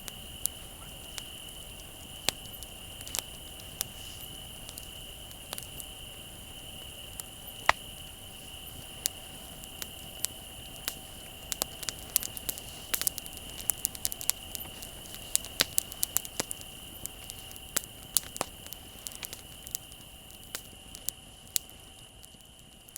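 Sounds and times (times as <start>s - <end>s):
bonfire crackling and popping: 0.0s - 22.9s
crickets chirring: 0.0s - 22.9s.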